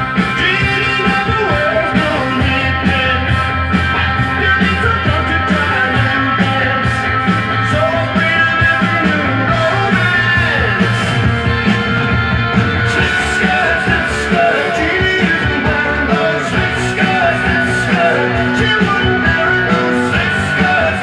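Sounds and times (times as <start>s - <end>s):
person singing: 0.0s - 3.4s, 4.0s - 11.2s, 12.8s - 21.0s
electric guitar: 0.0s - 21.0s
steady drum beat: 0.0s - 21.0s.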